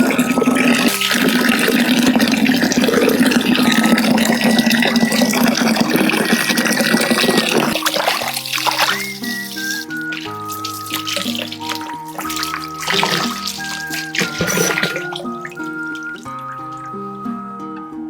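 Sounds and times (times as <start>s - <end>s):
water running from a tap: 0.0s - 17.1s
background music: 0.0s - 18.0s.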